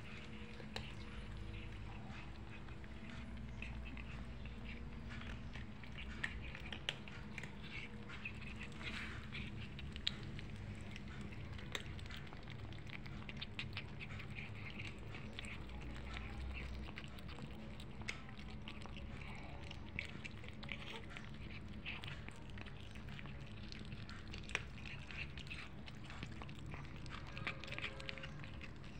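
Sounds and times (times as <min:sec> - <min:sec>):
kittens chewing food: 0:00.0 - 0:28.9.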